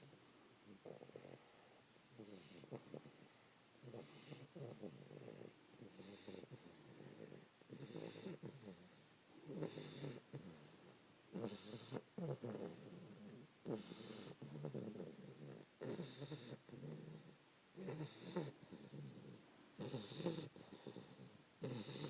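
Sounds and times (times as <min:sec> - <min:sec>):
puppy snoring: 0:00.0 - 0:22.0.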